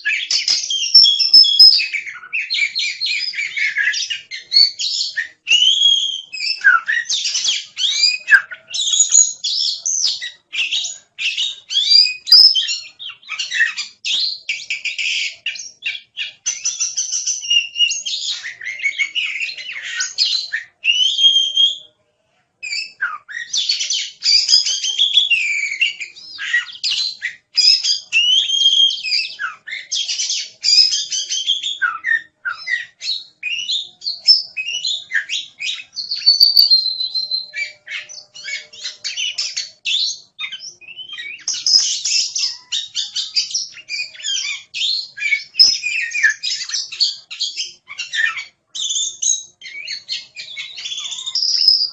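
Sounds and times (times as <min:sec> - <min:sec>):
bird singing whistles and trills: 0:00.0 - 0:22.0, 0:22.6 - 0:51.9.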